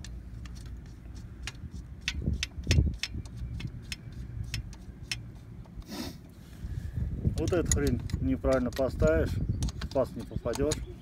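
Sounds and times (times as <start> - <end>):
small metallic clicks and taps: 0.0 - 5.9, 7.3 - 10.9
steady low rumble: 0.0 - 11.0.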